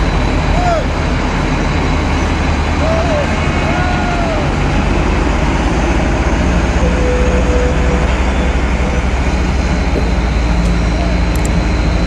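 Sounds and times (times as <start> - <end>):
heavy truck rumbling: 0.0 - 12.0
road noise: 0.0 - 12.0.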